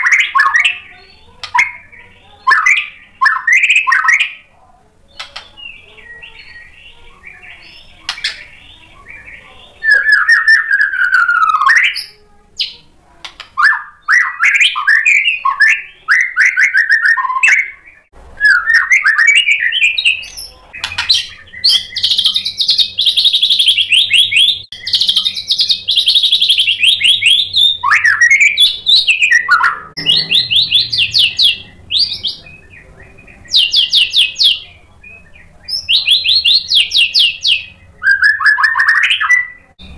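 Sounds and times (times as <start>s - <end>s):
bird singing: 0.0s - 12.9s, 13.6s - 39.9s.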